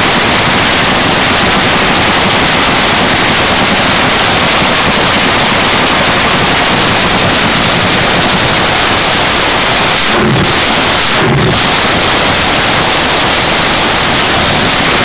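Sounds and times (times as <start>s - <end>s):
distorted drag racing engine roar: 0.0s - 15.0s.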